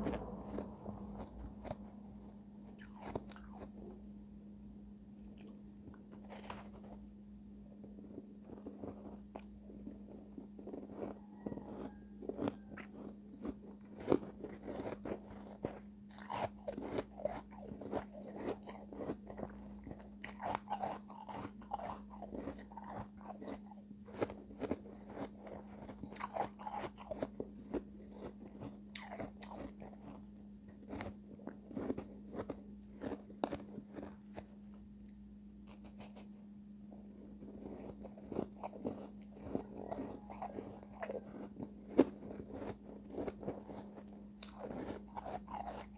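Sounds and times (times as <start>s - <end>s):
chewing crunchy ice: 0.0s - 1.9s, 2.7s - 4.0s, 5.3s - 7.0s, 7.7s - 34.6s, 36.9s - 45.9s.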